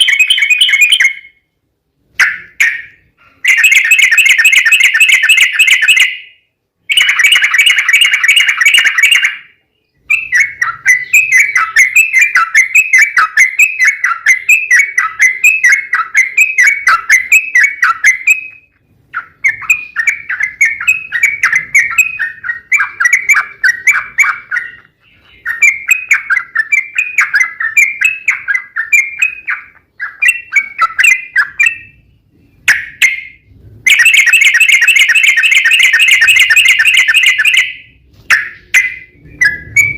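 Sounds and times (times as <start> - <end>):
buzzy bird trill: 0.0 - 1.5, 2.1 - 39.9.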